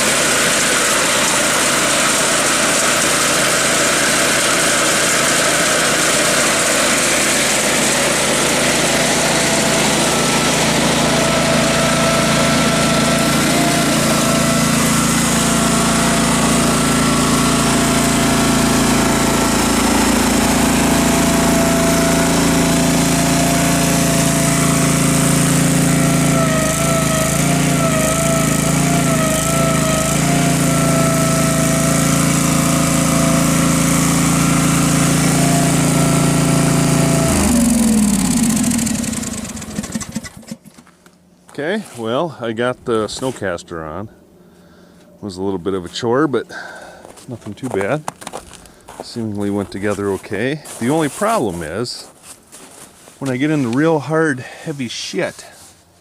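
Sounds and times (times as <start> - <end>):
engine running: 0.0 - 52.2.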